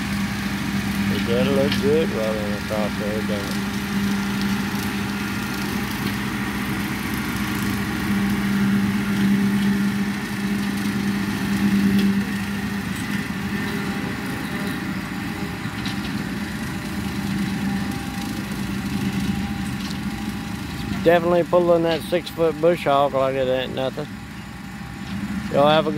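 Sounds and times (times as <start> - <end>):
rotary cutter cutting grass: 0.0 - 25.9
tractor diesel engine under load: 0.0 - 25.9.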